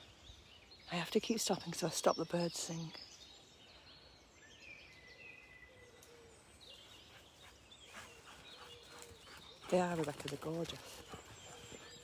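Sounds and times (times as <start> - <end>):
faint songbird chirps: 0.0 - 12.0.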